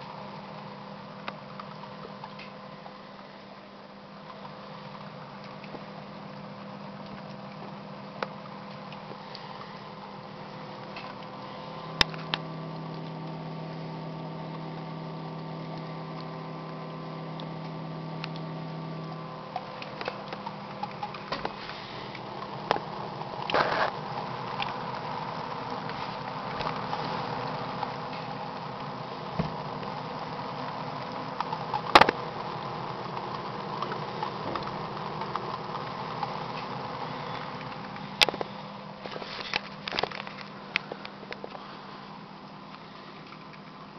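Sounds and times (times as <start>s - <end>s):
low hum tone: 0.0s - 43.9s
steady electric hum: 0.0s - 43.9s
water pattering onto pad: 4.2s - 41.7s.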